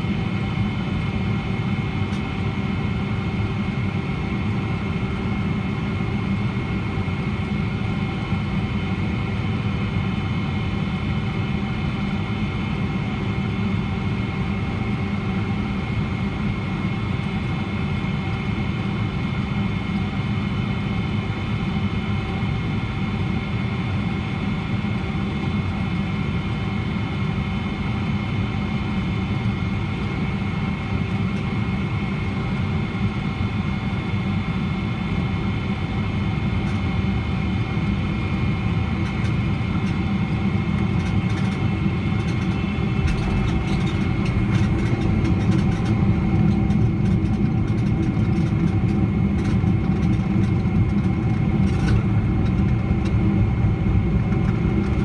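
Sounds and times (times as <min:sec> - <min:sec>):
low rumble of airflow and engines: 0:00.0 - 0:55.0.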